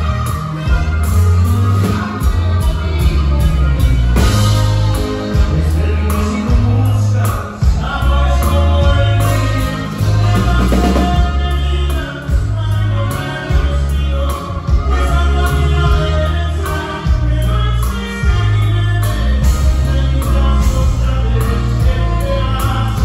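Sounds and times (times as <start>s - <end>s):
electric bass line: 0.0s - 23.0s
live band playing: 0.0s - 23.0s
person singing: 0.0s - 23.0s.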